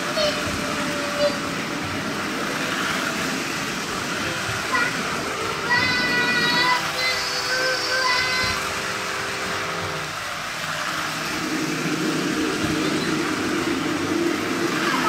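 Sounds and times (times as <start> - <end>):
toy diesel train passing close: 0.0 - 15.0
toy train wheels and motors humming: 0.0 - 15.0.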